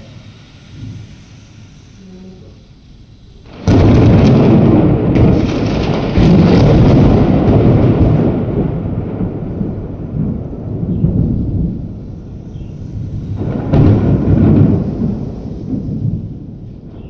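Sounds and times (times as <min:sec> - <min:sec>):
thunder rumble: 0:00.0 - 0:17.0
thunder crack: 0:03.3 - 0:17.0.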